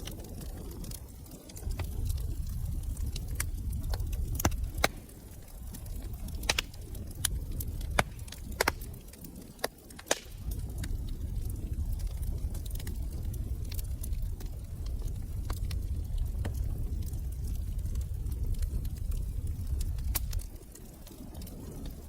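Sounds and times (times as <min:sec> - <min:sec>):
fire pops and snaps: 0:00.0 - 0:22.0
wood fire crackling: 0:00.0 - 0:22.0.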